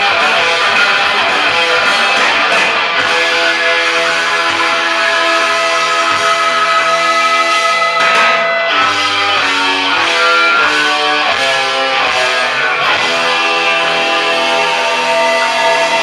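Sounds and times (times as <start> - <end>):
electric guitar lead line: 0.0 - 16.0.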